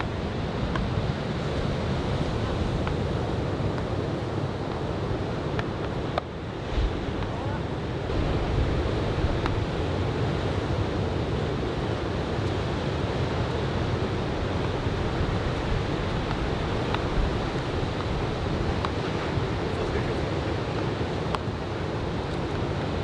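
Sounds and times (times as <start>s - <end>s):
ocean surf breaking: 0.0s - 23.0s
wind rumbling on microphone: 0.0s - 23.0s.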